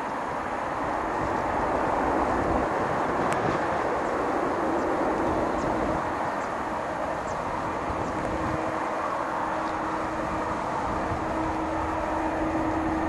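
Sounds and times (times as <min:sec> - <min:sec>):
jet engines rushing: 0:00.0 - 0:13.0
low steady hum: 0:00.0 - 0:13.0.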